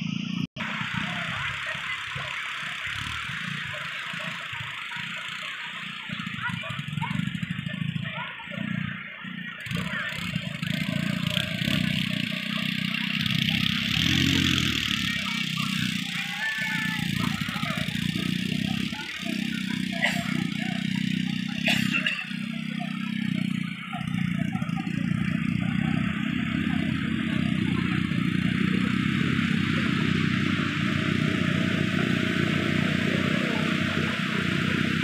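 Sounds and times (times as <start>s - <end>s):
people's voices: 0.0s - 35.0s.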